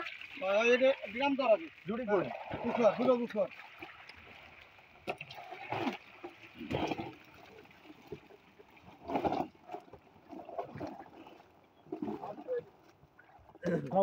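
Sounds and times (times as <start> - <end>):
water and fish splashing: 0.0 - 14.0.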